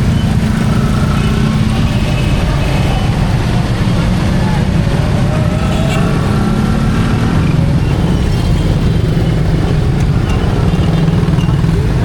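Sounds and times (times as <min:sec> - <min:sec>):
vehicle engines rumbling in traffic: 0:00.0 - 0:12.0.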